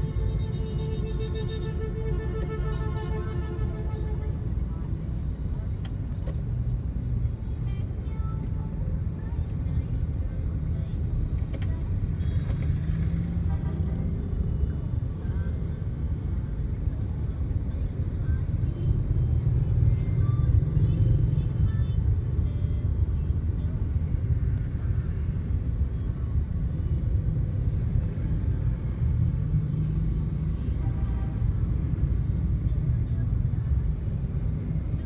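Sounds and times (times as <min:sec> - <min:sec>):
vehicle moving in city traffic: 0:00.0 - 0:35.0.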